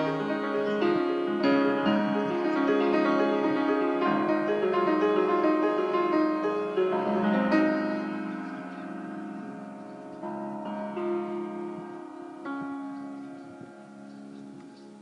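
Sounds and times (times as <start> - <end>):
solo piano chords: 0.0 - 15.0.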